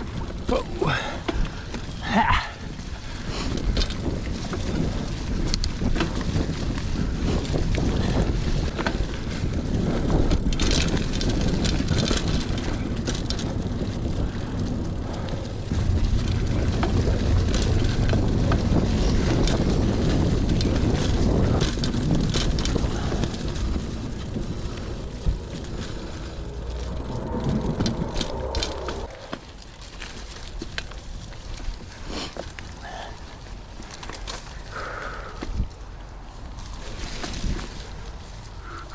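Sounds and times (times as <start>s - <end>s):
wind buffeting microphone: 0.0s - 33.9s
bike clicks and rattles: 0.0s - 38.9s
bike tyre rumble: 0.0s - 38.9s.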